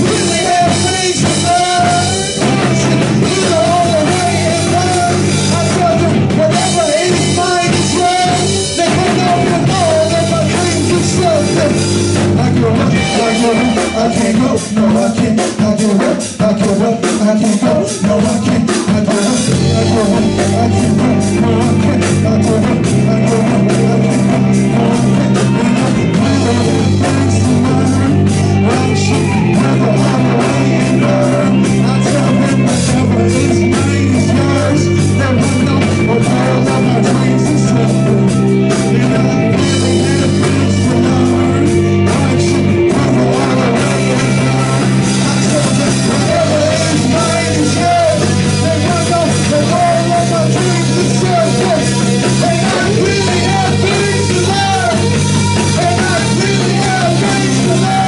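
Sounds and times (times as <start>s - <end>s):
steady low bass notes: 0.0s - 15.8s, 18.0s - 58.0s
drum kit: 0.0s - 58.0s
electric guitar: 0.0s - 58.0s
lead vocal singing: 0.0s - 58.0s.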